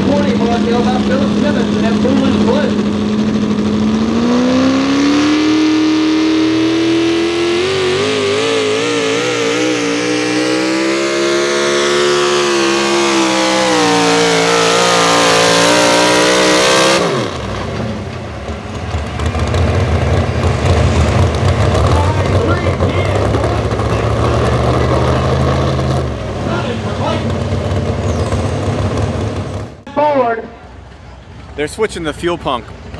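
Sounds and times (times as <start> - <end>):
truck engine revving at full throttle: 0.0 - 29.9.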